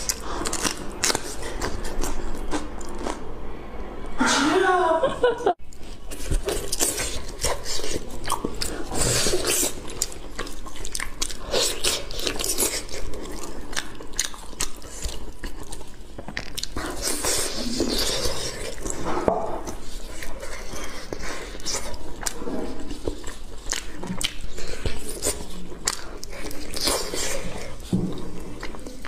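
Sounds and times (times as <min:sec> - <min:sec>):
wet chewing and mouth sounds: 0:00.0 - 0:03.3, 0:05.6 - 0:29.0.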